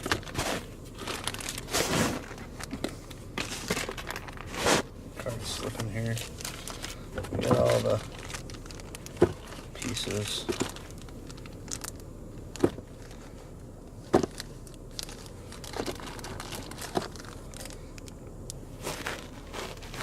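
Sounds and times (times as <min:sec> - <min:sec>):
packaging crinkling and rustling: 0:00.0 - 0:13.4, 0:14.1 - 0:20.0
steady low hum: 0:00.0 - 0:20.0.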